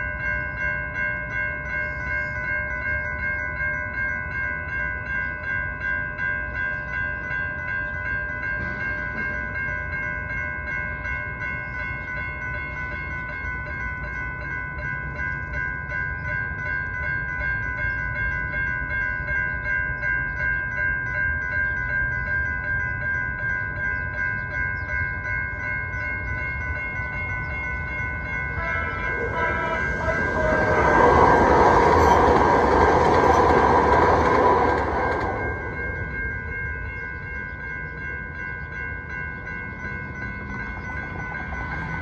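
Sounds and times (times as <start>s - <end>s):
crossing warning bell ringing: 0.0s - 42.0s
light rail train rumbling: 0.0s - 42.0s.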